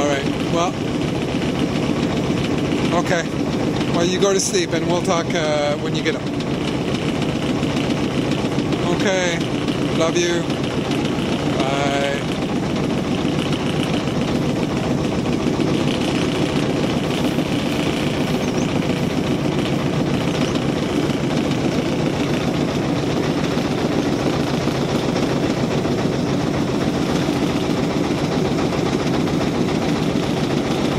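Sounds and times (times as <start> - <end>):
small engine running: 0.0 - 30.9.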